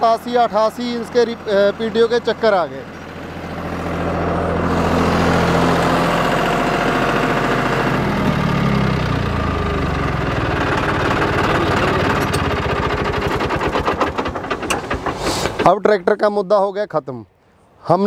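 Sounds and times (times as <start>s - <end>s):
diesel tractor engine: 0.0s - 16.8s.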